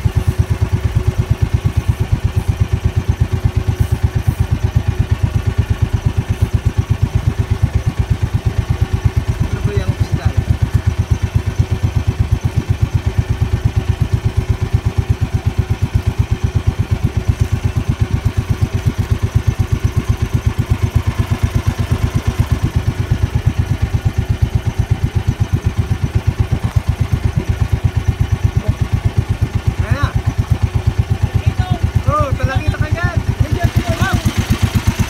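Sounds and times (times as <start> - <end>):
small boat engine chugging: 0.0 - 35.0.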